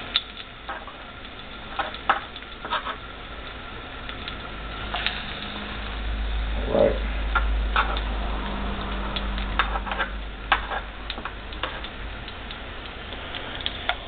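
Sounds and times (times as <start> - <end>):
frying in hot oil: 0.0 - 14.0
oil popping and crackling: 0.0 - 14.0.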